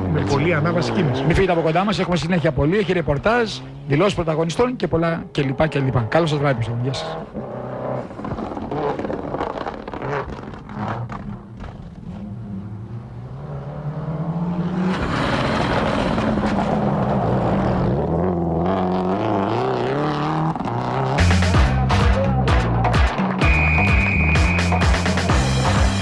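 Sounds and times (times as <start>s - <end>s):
rally car engine revving: 0.0s - 23.6s.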